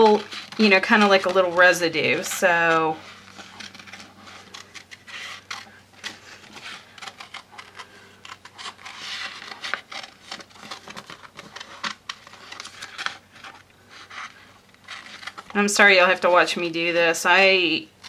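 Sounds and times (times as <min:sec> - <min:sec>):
paper rustling: 0:00.0 - 0:16.3.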